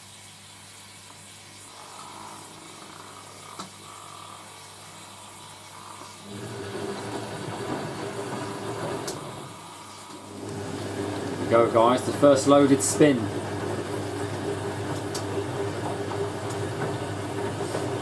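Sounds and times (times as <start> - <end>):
washing machine hum: 0.0 - 18.0
washing machine motor spinning: 1.6 - 18.0.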